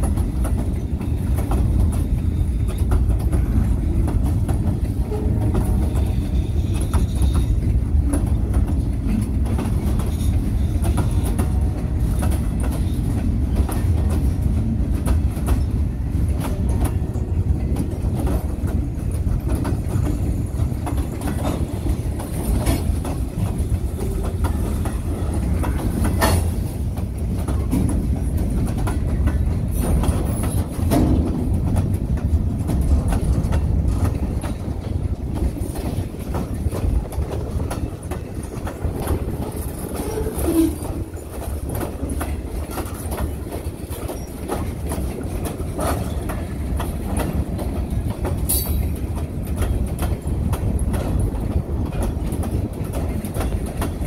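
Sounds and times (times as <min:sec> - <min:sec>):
freight train wheels rumbling on rails: 0:00.0 - 0:54.0
train cars clicking and clanking: 0:00.0 - 0:54.0.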